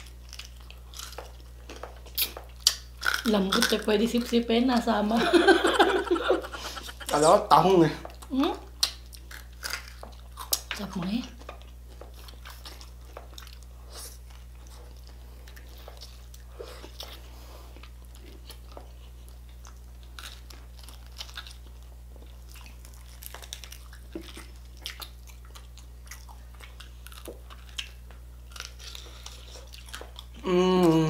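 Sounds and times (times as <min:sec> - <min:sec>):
chewing and crunching: 0:00.0 - 0:05.2, 0:05.9 - 0:31.0
steady low hum: 0:00.0 - 0:31.0.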